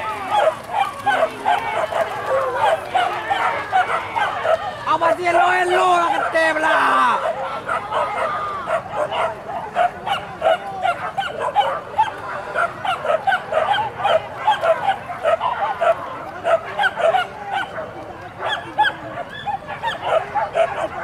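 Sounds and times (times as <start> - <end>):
dogs yelping: 0.0 - 4.9, 5.7 - 21.0.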